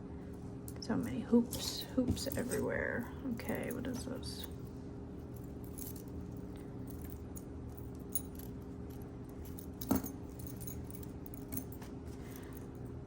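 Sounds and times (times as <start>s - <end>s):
metal jewelry clinking: 0.7s - 12.9s.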